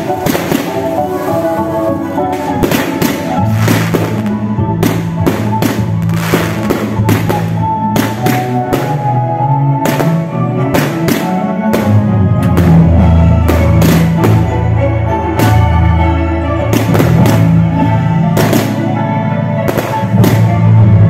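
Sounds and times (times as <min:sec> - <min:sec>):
fireworks bangs and crackle: 0:00.0 - 0:19.0, 0:19.6 - 0:21.0
music with held bass line: 0:00.0 - 0:21.0.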